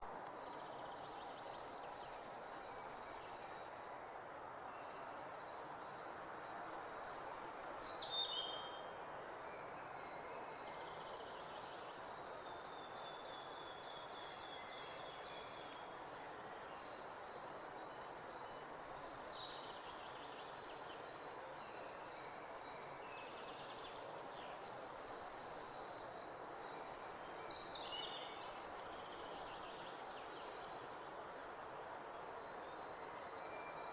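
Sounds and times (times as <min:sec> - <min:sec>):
steady background noise: 0:00.0 - 0:33.9.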